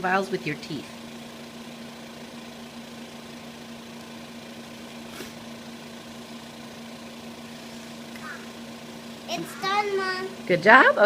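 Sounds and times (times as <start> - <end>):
air compressor humming: 0.9 - 10.7.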